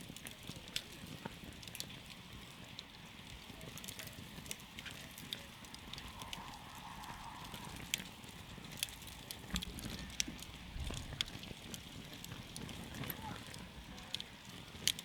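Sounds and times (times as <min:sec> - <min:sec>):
burning wood crackling and popping: 0:00.0 - 0:15.0
campfire hissing: 0:00.0 - 0:15.0.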